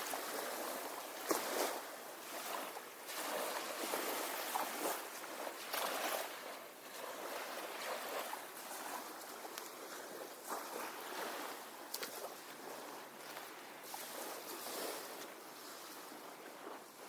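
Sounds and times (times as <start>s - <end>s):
small waves lapping on beach: 0.0s - 17.0s.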